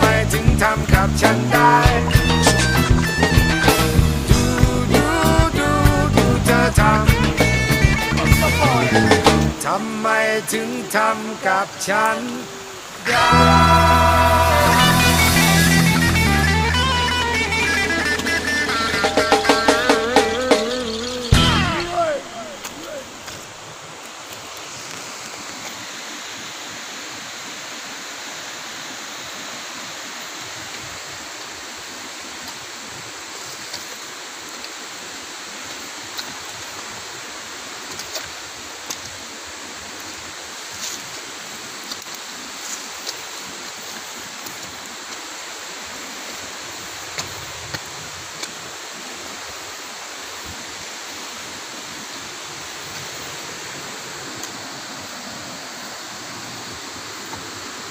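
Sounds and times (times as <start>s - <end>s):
river rapids rushing: 0.0s - 57.9s.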